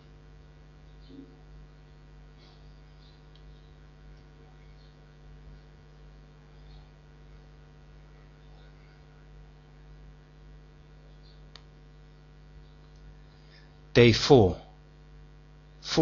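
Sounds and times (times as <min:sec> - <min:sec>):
mains hum: 0:00.0 - 0:16.0.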